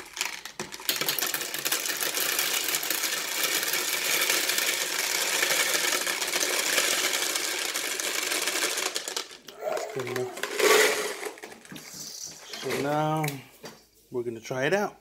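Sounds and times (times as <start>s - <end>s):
candies rattling onto plastic: 0.0s - 13.2s.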